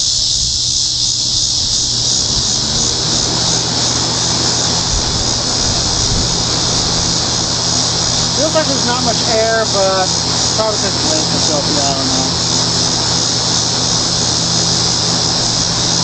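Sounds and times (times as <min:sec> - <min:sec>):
electric fan motor humming: 0:00.0 - 0:16.0
high insect buzz: 0:00.0 - 0:16.0.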